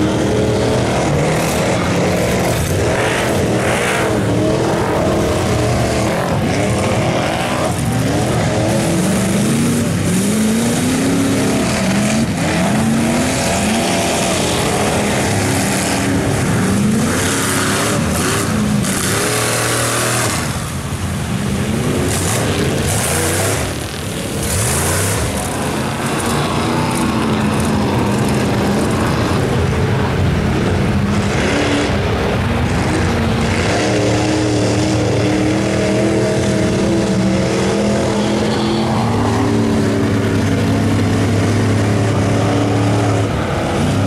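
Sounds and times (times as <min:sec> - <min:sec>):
truck engine revving hard: 0:00.0 - 0:44.0
tyres churning through mud: 0:00.0 - 0:44.0.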